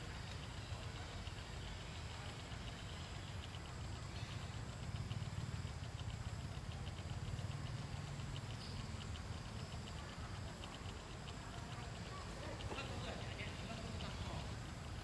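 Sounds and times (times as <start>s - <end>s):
rapid high-pitched chirping: 0.0s - 15.0s.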